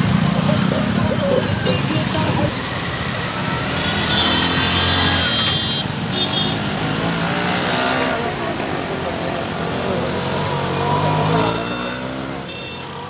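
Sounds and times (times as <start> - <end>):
car engines passing: 0.0 - 13.0
traffic noise: 0.0 - 13.0.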